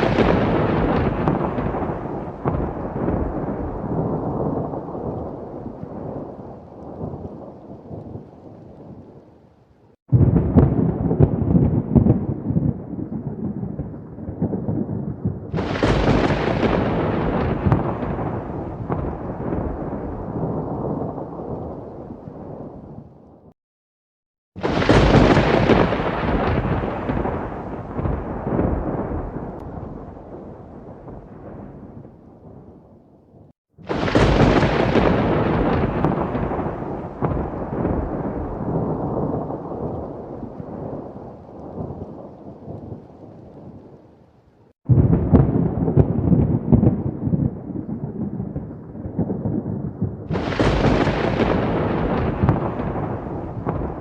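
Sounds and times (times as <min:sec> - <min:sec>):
sharp crack of thunder: 0:00.0 - 0:09.0, 0:10.1 - 0:23.6, 0:24.6 - 0:33.0, 0:33.8 - 0:43.9, 0:44.9 - 0:54.0
steady rain: 0:00.0 - 0:23.5, 0:24.6 - 0:32.6, 0:33.8 - 0:54.0
thunder rolling and crackling: 0:00.0 - 0:23.6, 0:24.6 - 0:54.0.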